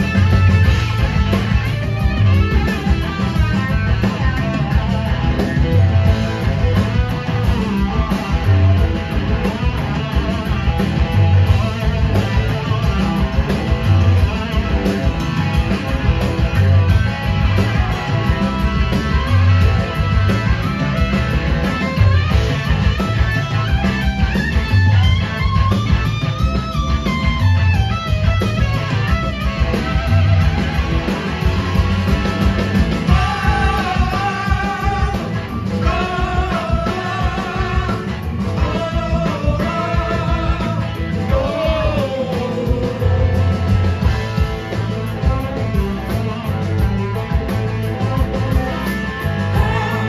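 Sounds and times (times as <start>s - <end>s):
blues-rock band playing: 0.0s - 50.0s
electric guitars: 0.0s - 50.0s
pulsing bass notes: 0.0s - 50.0s.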